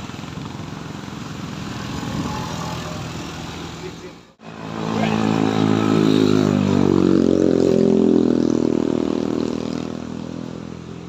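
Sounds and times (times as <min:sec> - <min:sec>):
vehicle engine pulling under load: 0:00.0 - 0:11.0.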